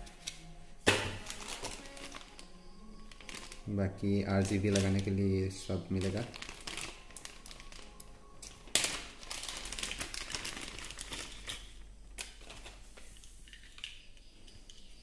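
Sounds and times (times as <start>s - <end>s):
plastic bag crinkling: 1.0s - 13.9s.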